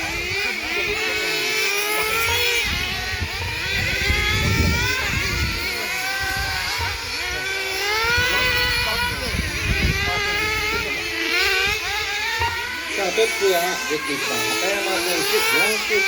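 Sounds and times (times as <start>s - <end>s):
rc car engines revving: 0.0s - 16.0s.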